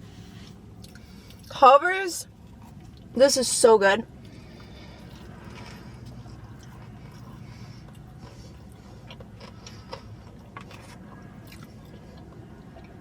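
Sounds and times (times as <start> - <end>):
low room hum: 0.0 - 13.0
person chewing: 0.4 - 1.5, 2.4 - 3.1, 4.2 - 13.0.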